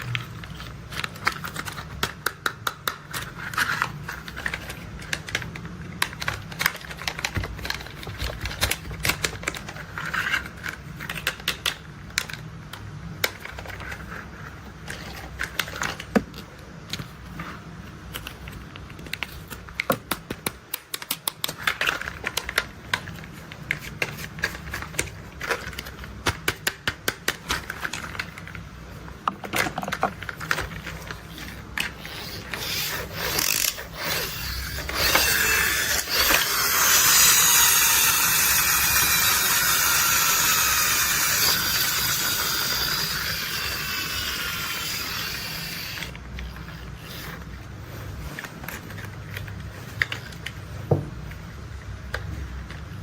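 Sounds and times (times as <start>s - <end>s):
toy mechanisms clicking and ratcheting: 0.0s - 16.2s, 18.1s - 28.6s, 29.5s - 50.6s.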